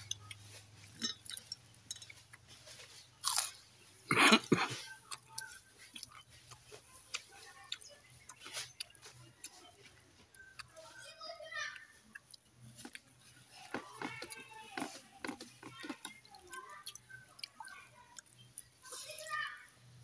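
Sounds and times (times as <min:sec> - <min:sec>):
chewing and crunching chips: 0:00.0 - 0:20.0.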